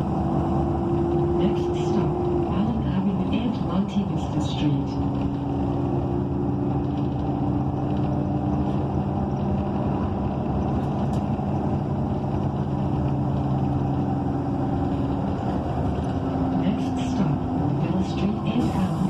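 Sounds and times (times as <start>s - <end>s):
bus engine humming: 0.0s - 19.0s
road noise: 0.0s - 19.0s.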